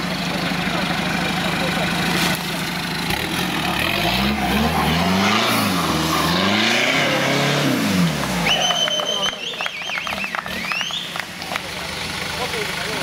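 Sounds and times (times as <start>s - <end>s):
engine idling and revving: 0.0s - 13.0s.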